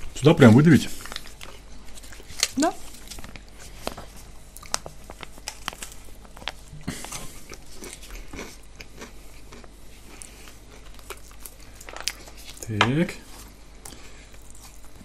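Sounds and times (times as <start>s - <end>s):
chewing crunchy bread: 0.4s - 15.0s.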